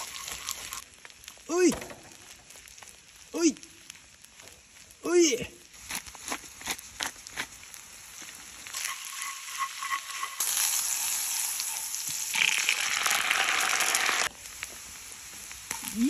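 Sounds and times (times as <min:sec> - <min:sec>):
butter sizzling in skillet: 0:00.0 - 0:03.2, 0:05.7 - 0:16.0
corn sizzling in butter: 0:00.0 - 0:16.0.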